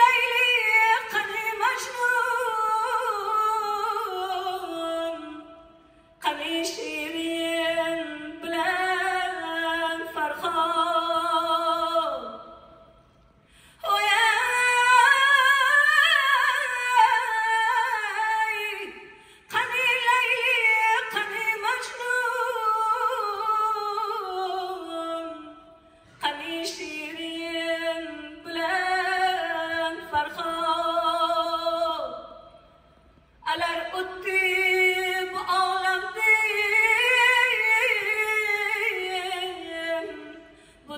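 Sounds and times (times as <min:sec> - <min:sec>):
woman singing into a microphone: 0:00.0 - 0:12.9, 0:13.6 - 0:32.6, 0:33.4 - 0:40.9.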